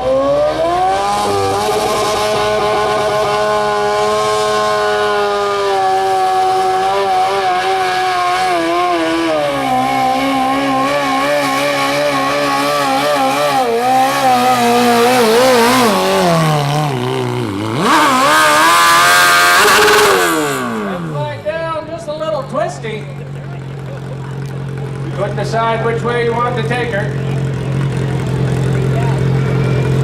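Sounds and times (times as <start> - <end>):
tractor engine revving hard: 0.0 - 30.0.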